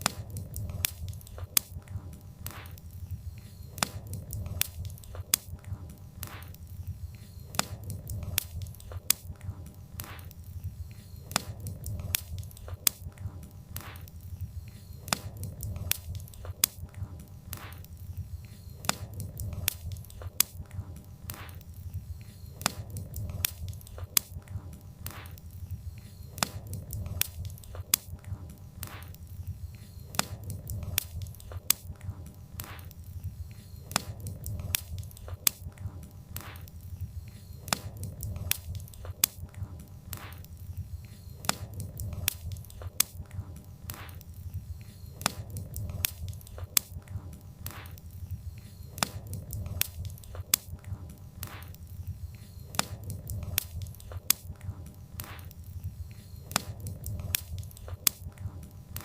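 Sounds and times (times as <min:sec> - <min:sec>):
firewood crackling and popping: 0:00.0 - 0:59.0
low rumble of flames: 0:00.0 - 0:59.0.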